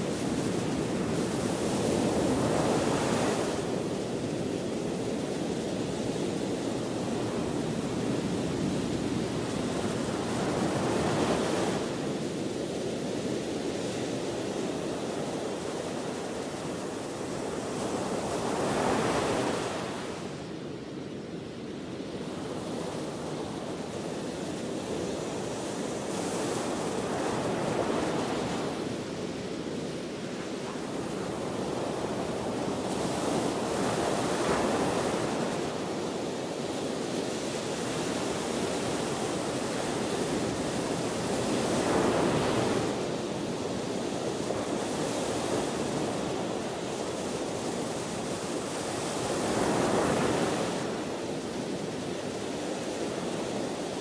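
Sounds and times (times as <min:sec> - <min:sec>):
ocean waves breaking on shore: 0:00.0 - 0:54.0
wind: 0:00.0 - 0:54.0.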